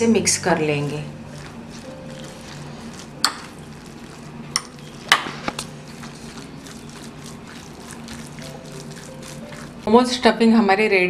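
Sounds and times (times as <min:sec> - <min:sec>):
spoon stirring filling: 0:00.5 - 0:10.3.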